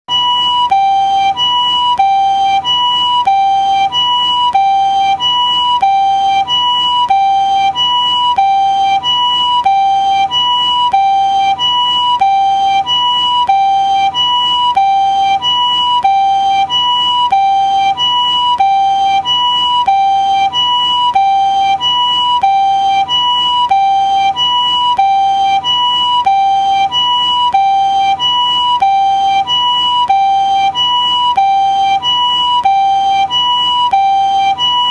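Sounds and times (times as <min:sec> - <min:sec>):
ambulance two-tone siren: 0:00.1 - 0:34.9.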